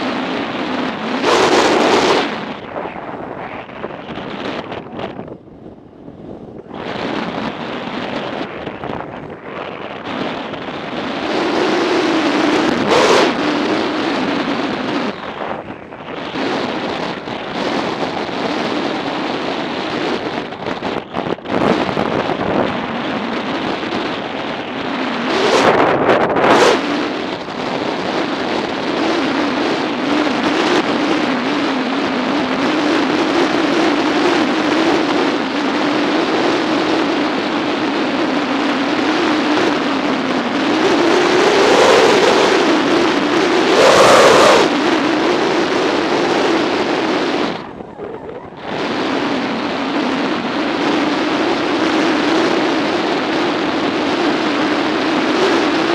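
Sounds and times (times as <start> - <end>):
motorcycle engine drone: 0.0 - 55.9
wind rush on microphone: 0.0 - 55.9.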